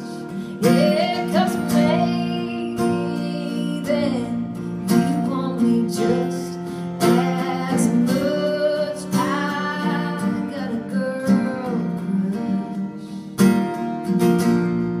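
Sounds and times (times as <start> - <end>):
acoustic guitar strummed: 0.0 - 15.0
woman singing long notes: 0.6 - 12.9.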